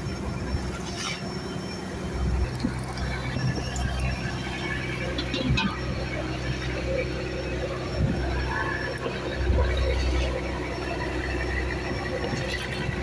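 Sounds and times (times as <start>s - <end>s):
boat engine low hum: 0.0s - 13.0s
thin high whine: 0.0s - 13.0s.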